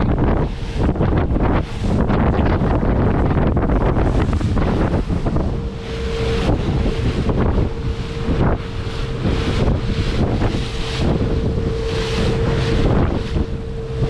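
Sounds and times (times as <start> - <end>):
outboard engine hum: 0.0 - 14.0
spray rushing along hull: 0.0 - 14.0
wind buffeting microphone: 0.0 - 14.0.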